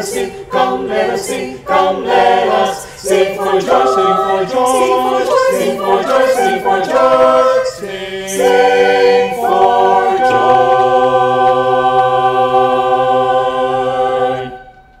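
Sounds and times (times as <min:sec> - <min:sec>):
church choir singing a cappella: 0:00.0 - 0:15.0.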